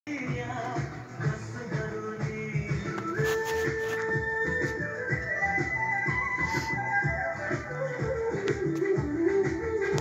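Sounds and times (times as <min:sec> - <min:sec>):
background music with steady beat: 0:00.1 - 0:10.0.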